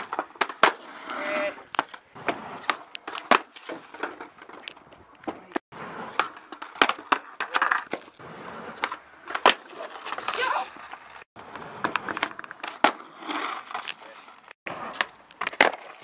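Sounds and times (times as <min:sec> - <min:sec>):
skateboard decks clacking: 0:00.0 - 0:16.0
skateboard wheels rolling: 0:00.0 - 0:16.0.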